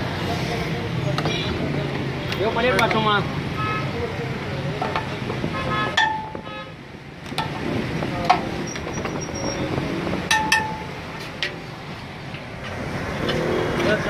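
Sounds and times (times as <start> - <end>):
traffic and street noise: 0.0 - 14.0.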